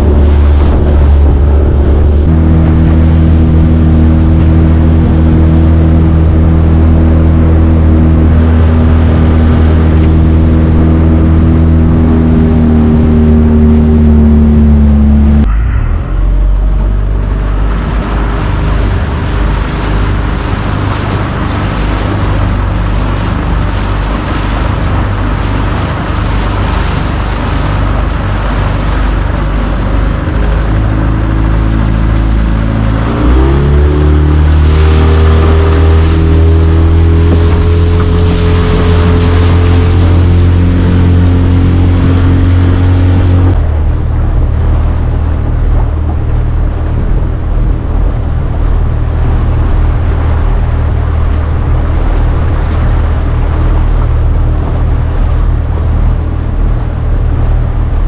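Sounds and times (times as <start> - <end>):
motorboat engine running: 0.0 - 58.0
water noise: 0.0 - 58.0
wind noise: 0.0 - 58.0.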